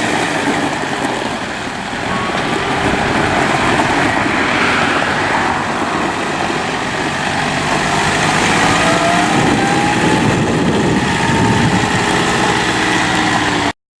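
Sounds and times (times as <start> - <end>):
tractor diesel engine running: 0.0 - 13.7
faint rising whine: 1.4 - 13.2.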